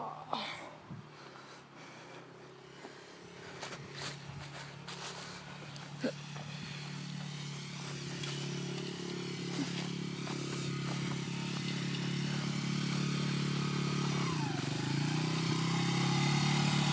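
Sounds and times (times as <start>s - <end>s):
dirt bike engine running: 0.0s - 16.9s.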